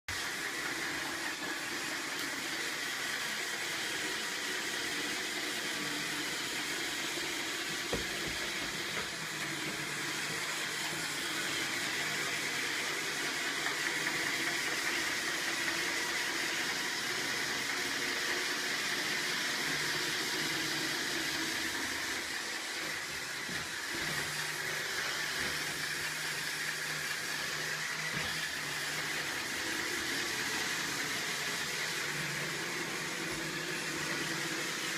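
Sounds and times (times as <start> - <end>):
robot vacuum whirring: 0.1 - 34.9.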